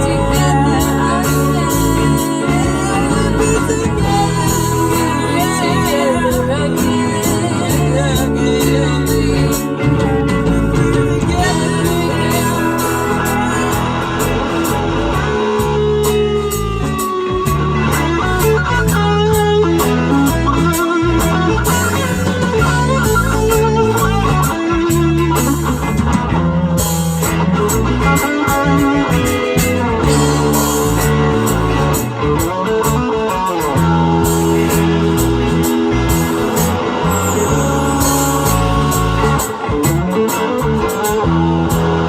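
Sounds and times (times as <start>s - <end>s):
bass: 0.0s - 42.0s
drums: 0.0s - 42.0s
lead guitar: 0.0s - 42.0s.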